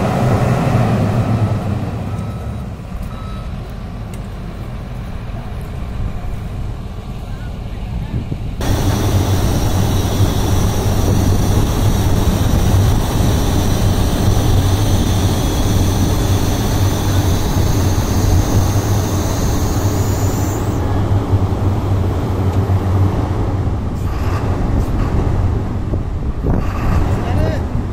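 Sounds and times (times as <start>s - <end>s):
high whine: 0.0s - 25.0s
diesel engine running: 0.0s - 27.8s.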